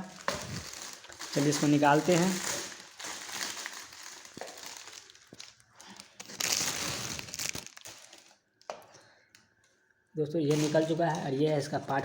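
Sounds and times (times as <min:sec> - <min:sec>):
packaging crinkling and rustling: 0:00.0 - 0:09.8, 0:10.5 - 0:12.0.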